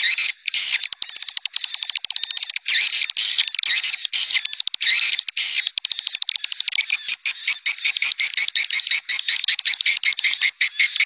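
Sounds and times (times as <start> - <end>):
rapid clicks: 0.0 - 11.0.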